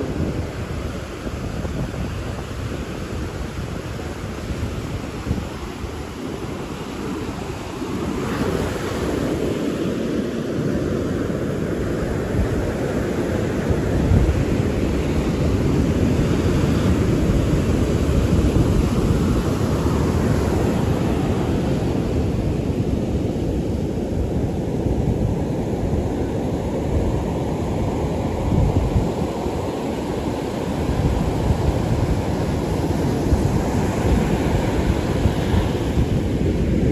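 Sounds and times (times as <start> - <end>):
surf breaking on shore: 0.0 - 36.9
wind buffeting microphone: 0.0 - 36.9.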